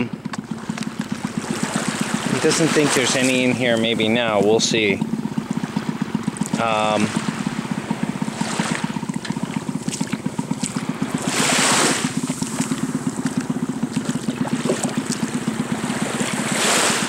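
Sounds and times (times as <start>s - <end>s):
boat engine chugging: 0.0s - 17.0s
wash of water: 0.4s - 17.0s.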